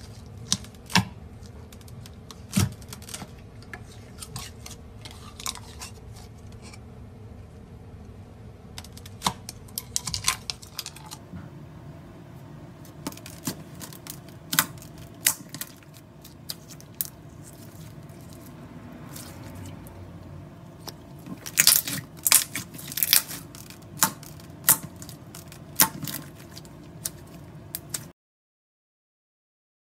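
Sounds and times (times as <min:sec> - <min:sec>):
low hum: 0:03.1 - 0:28.1.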